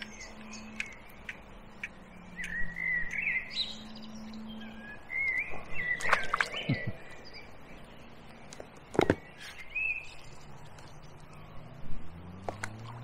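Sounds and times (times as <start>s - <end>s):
songbirds warbling: 0.0s - 13.0s.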